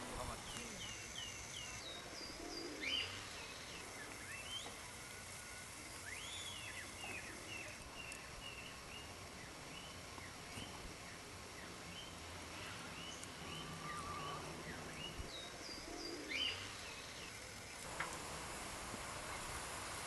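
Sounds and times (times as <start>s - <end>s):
small birds chirping: 0.0s - 18.2s.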